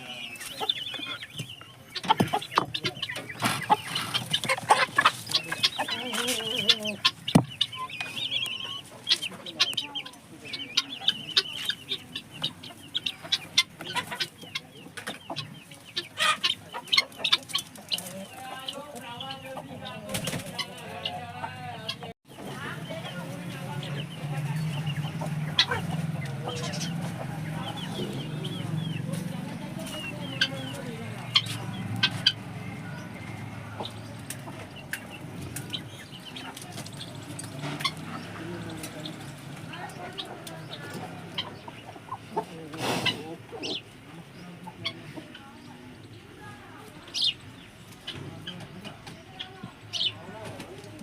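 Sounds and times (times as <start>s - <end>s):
high chirping calls: 0.0s - 21.2s, 21.8s - 50.3s
chickens clucking and calling: 0.0s - 51.0s.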